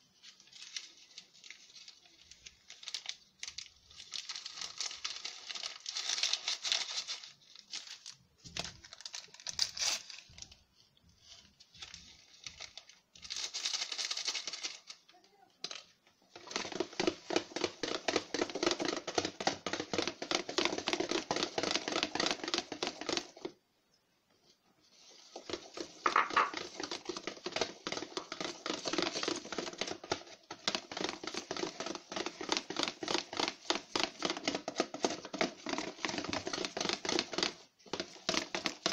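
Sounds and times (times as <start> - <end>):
hand mixing batter in plastic bowl: 0.0 - 13.3, 14.1 - 38.9.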